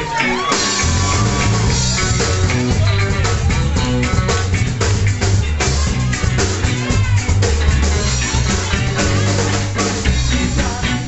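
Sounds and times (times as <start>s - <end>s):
drum kit: 0.0s - 11.0s
electric guitars: 0.0s - 11.0s
loud bass line: 0.0s - 11.0s.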